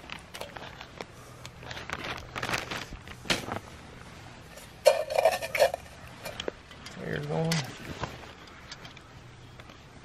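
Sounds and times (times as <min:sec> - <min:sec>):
crackles and rustles in stove: 0:00.0 - 0:10.0.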